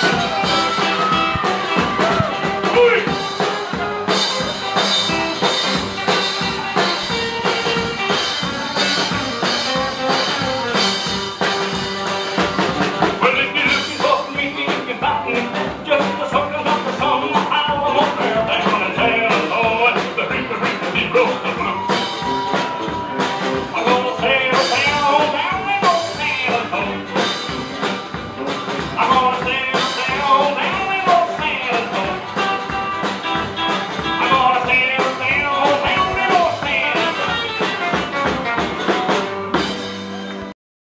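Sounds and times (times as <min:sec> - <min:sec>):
live rockabilly band playing: 0:00.0 - 0:40.6.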